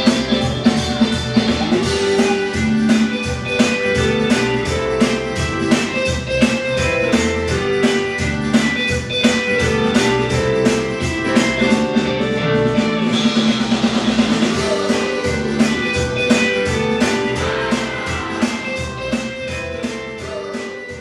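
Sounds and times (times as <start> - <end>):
plucked guitar: 0.0 - 21.0
steady drum beat: 0.0 - 21.0.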